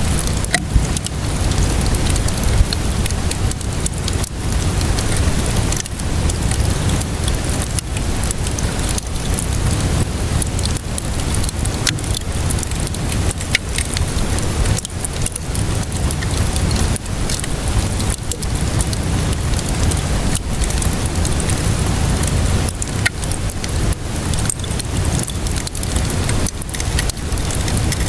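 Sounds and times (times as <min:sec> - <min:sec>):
rainfall hiss: 0:00.0 - 0:28.0
wood fire crackling: 0:00.0 - 0:28.0.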